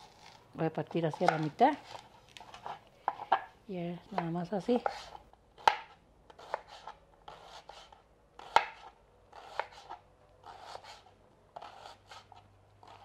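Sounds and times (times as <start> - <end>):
knife slicing onion: 0.0 - 3.5, 4.1 - 13.0.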